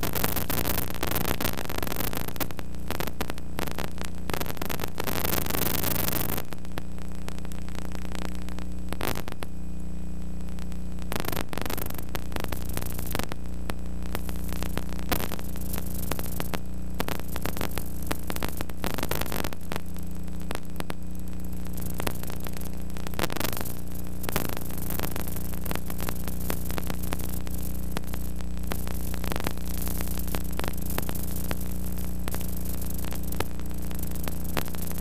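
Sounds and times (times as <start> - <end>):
crackling clicks: 0.0 - 35.0
electrical mains hum: 0.0 - 35.0
static hiss: 0.0 - 35.0.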